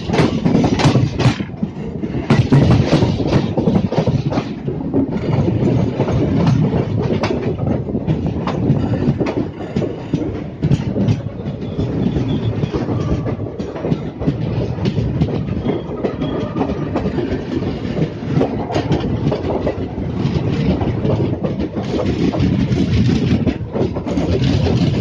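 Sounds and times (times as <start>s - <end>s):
train rumble: 0.0s - 25.0s
train wheels clattering over joints: 0.0s - 25.0s.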